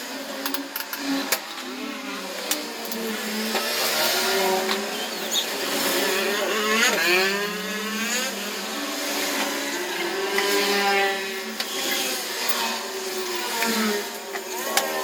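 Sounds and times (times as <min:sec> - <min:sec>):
motor with sliding pitch: 0:00.1 - 0:15.0.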